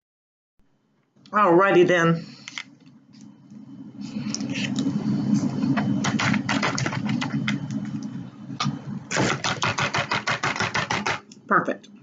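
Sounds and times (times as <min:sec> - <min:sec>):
low hum: 0:00.7 - 0:12.0.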